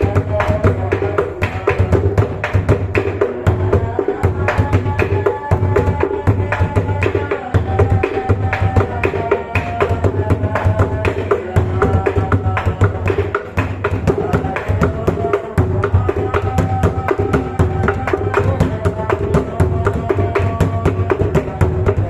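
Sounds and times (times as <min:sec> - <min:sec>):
large drum beaten rapidly: 0:00.0 - 0:22.0.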